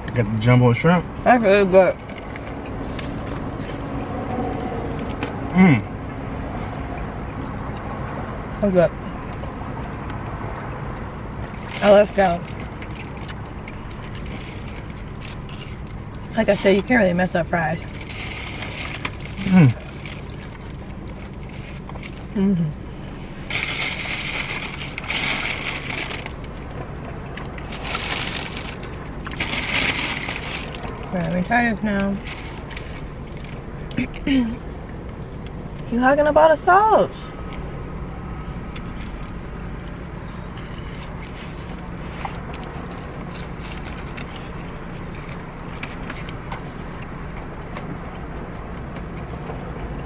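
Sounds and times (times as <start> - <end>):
steady low hum: 0.0 - 50.0
chewing crunchy fried food: 1.9 - 5.5, 6.4 - 34.2, 38.4 - 50.0.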